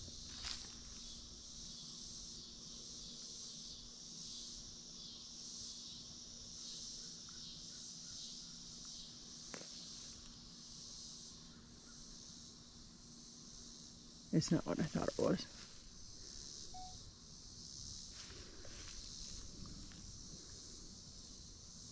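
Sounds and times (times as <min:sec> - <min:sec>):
insects buzzing: 0:00.0 - 0:21.9.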